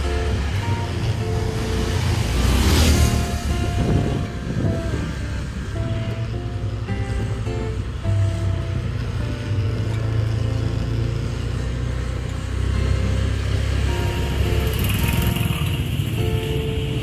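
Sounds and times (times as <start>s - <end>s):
background music: 0.0s - 17.0s
low vehicle rumble: 0.0s - 17.0s
motorcycle passing: 0.0s - 17.0s.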